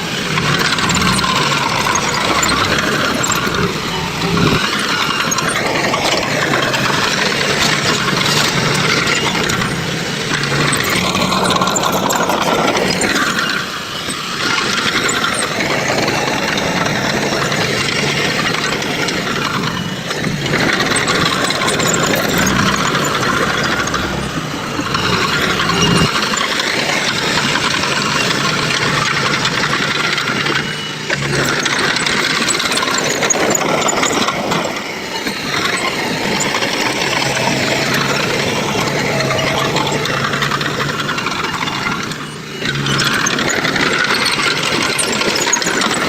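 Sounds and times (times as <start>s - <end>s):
construction machinery diesel engine: 0.0s - 46.0s.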